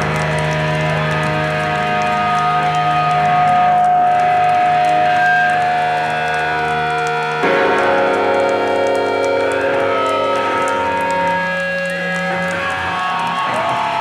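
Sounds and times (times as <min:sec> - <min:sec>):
electric guitar chords ringing: 0:00.0 - 0:14.0.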